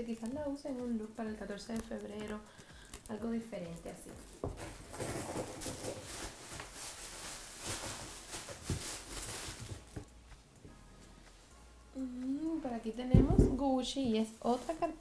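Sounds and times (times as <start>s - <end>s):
paper and fabric rustling: 0.0s - 10.4s, 12.5s - 15.0s.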